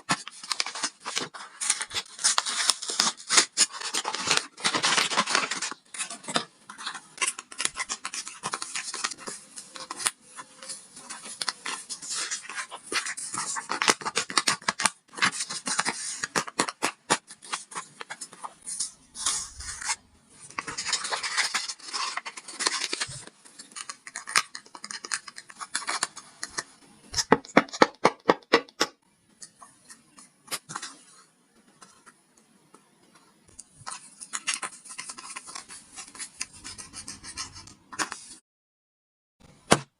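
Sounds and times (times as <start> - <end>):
paper rustling and scratching: 0.0 - 27.6, 33.6 - 38.4.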